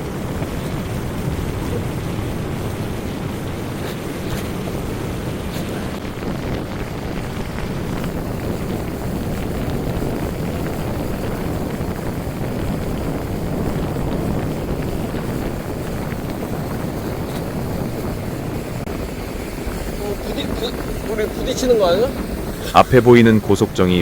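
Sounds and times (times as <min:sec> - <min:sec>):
motorboat engine and water rush: 0:00.0 - 0:24.0
wind buffeting microphone: 0:00.0 - 0:24.0.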